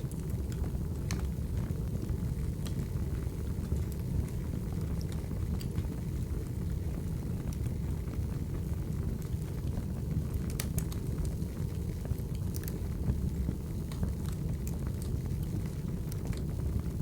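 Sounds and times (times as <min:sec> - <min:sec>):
logs crackling and popping: 0:00.0 - 0:17.0
wood fire burning: 0:00.0 - 0:17.0.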